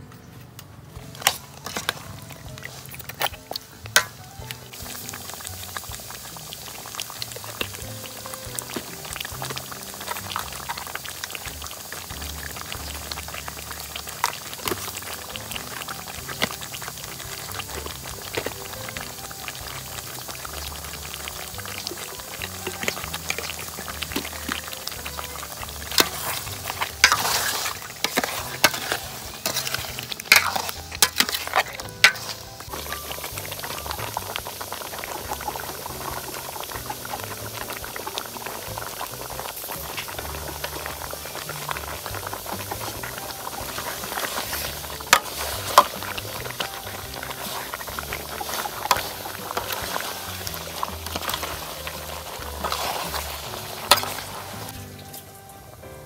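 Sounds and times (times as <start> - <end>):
soup bubbling in a pot: 0.9 - 55.8.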